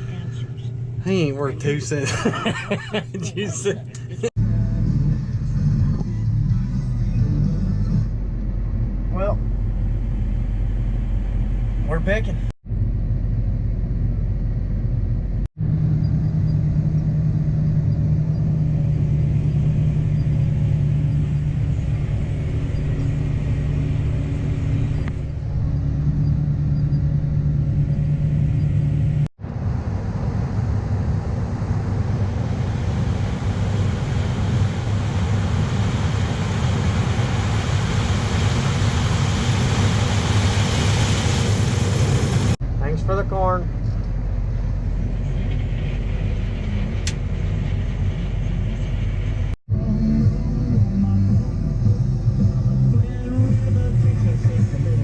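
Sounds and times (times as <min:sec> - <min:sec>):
harvester engine humming: 0:00.0 - 0:55.0.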